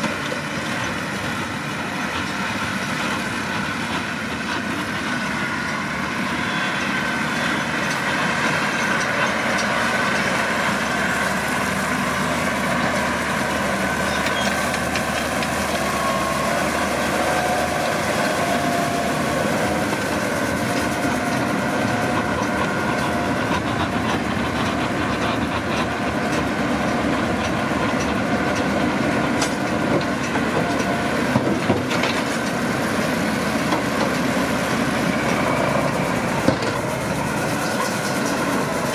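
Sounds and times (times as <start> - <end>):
baler machinery: 0.0 - 38.9
tractor engine running: 0.0 - 38.9.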